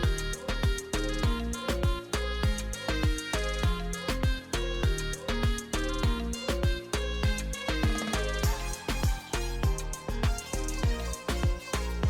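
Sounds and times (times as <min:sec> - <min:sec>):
music with deep drum beat: 0:00.0 - 0:12.0.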